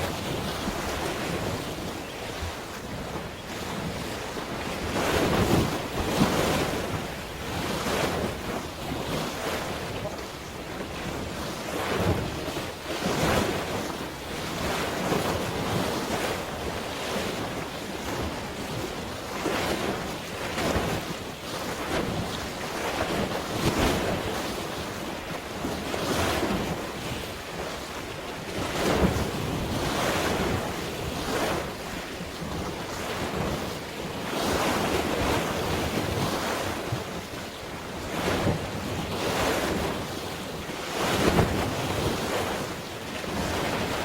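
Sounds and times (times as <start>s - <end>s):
waves washing: 0.0s - 44.0s
wind buffeting microphone: 0.0s - 44.0s.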